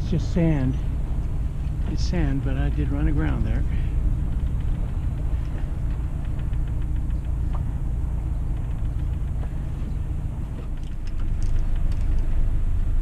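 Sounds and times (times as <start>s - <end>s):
boat engine low rumble: 0.0s - 13.0s.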